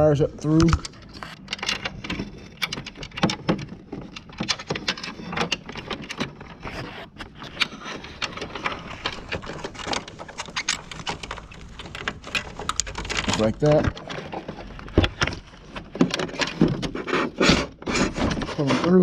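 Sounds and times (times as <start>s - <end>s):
electrical wires clicking and rustling: 0.0s - 19.0s.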